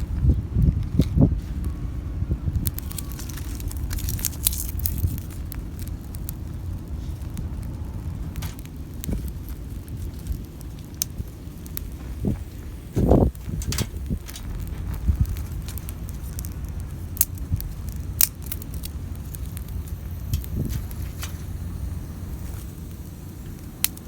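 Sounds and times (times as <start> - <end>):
twig fire crackling: 0.0 - 24.0
wind on microphone: 0.0 - 24.0.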